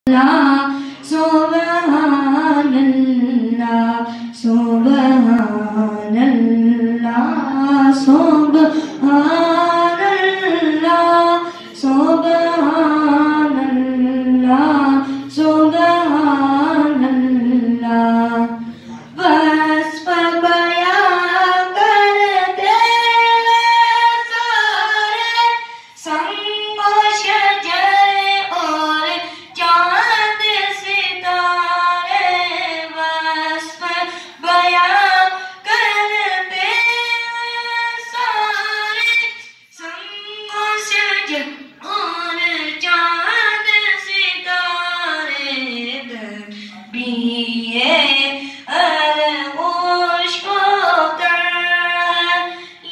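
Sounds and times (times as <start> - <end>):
boy singing into microphone: 0.0 - 52.9.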